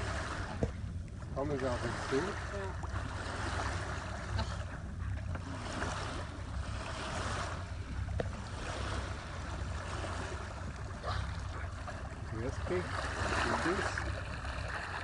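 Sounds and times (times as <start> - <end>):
low steady rumble: 0.0 - 15.0
water washing along hull: 0.0 - 15.0.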